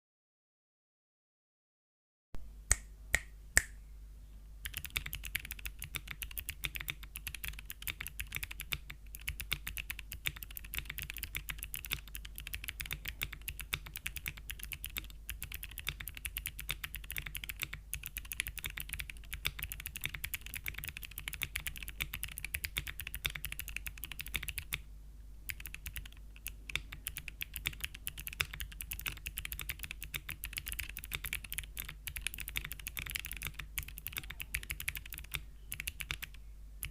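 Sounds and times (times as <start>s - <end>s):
clicky mechanical keyboard typing: 4.6s - 24.8s, 25.5s - 36.9s.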